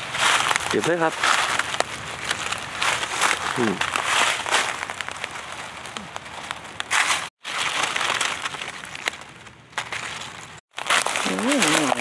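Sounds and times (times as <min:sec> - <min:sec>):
leaf litter crunching and rustling: 0:00.0 - 0:12.0.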